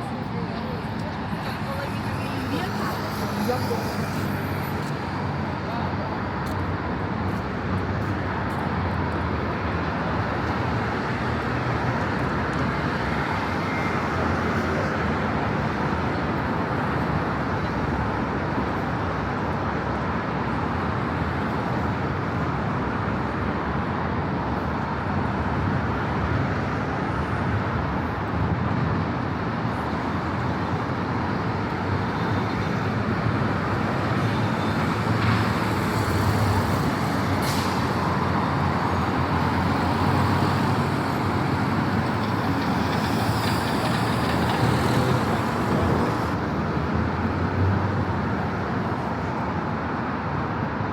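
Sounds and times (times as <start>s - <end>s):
city street traffic: 0.0s - 50.9s.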